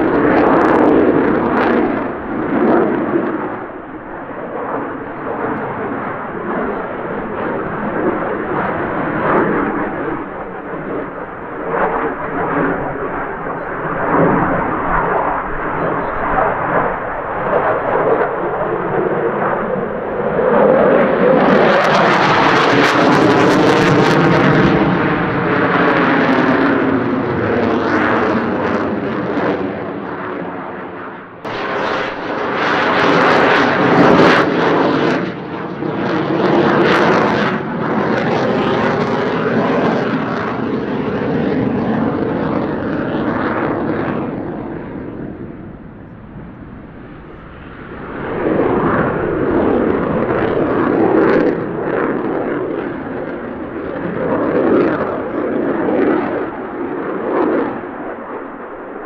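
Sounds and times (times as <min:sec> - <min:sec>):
fighter jet engine roaring: 0:00.0 - 0:59.0.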